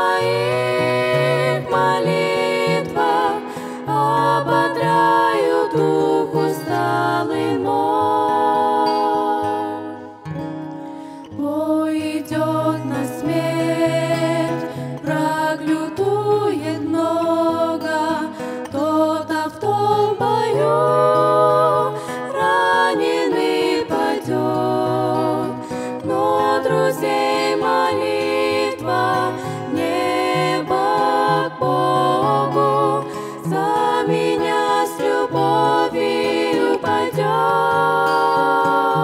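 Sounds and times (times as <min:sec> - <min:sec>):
women singing together: 0:00.0 - 0:10.2, 0:11.3 - 0:39.0
strummed acoustic guitar: 0:00.0 - 0:11.4, 0:12.2 - 0:39.0.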